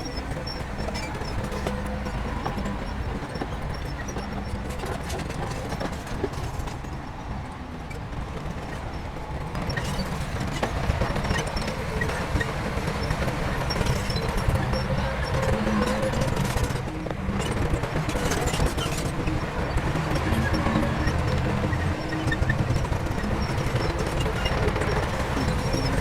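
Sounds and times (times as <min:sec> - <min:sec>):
diesel earthmoving machinery running: 0:00.0 - 0:26.0.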